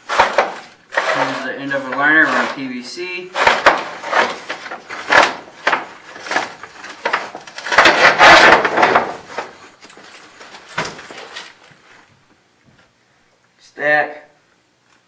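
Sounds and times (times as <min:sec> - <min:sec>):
scraping rustle: 0:00.0 - 0:12.1.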